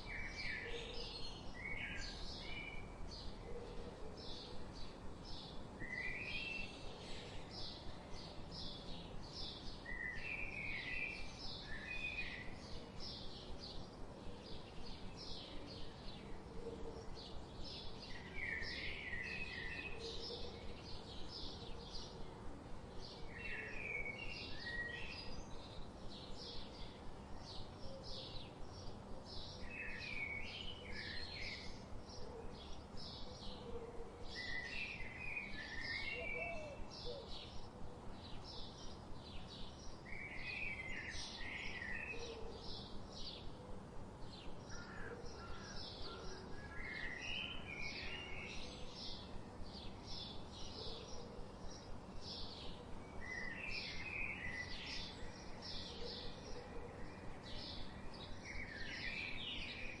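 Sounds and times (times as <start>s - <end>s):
faint steady hiss: 0.0s - 60.0s
songbirds chirping: 0.0s - 60.0s.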